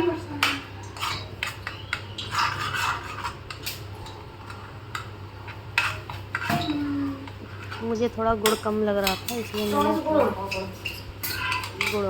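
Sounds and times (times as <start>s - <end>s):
steady low hum: 0.0s - 12.0s
metal spoon scraping a pan: 0.4s - 6.8s, 7.4s - 12.0s.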